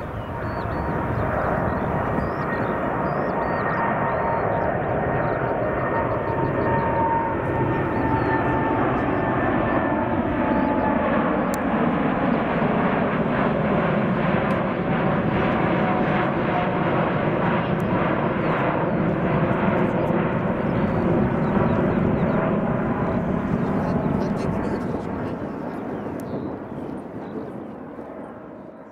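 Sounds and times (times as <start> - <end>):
jet engine rumble and whine: 0.0 - 28.9.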